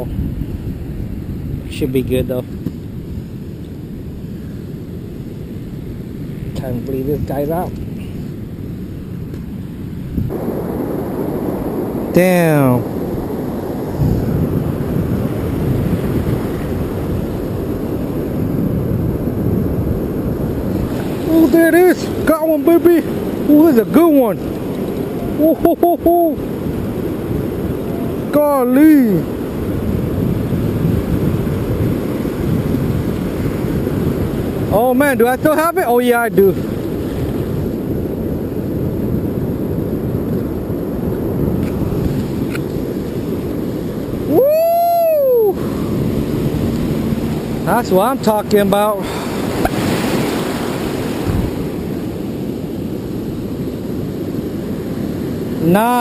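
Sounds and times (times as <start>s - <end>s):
wind buffeting microphone: 0.0s - 56.0s
breaking surf: 0.6s - 56.0s.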